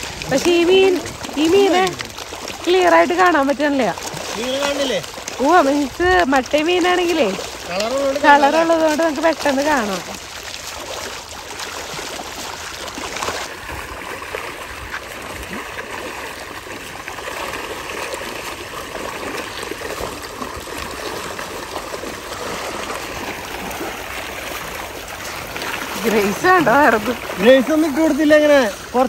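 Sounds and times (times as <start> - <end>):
water trickling: 0.0 - 29.0.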